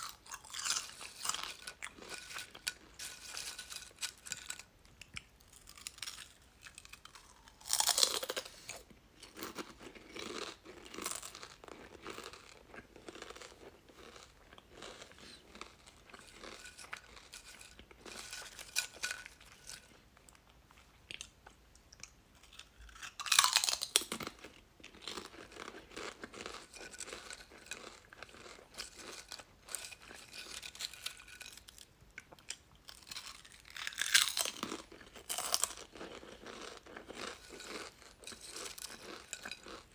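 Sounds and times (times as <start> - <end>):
crunchy chips bitten: 0.0 - 19.9, 22.0 - 39.9
crackling chewing: 0.0 - 39.9.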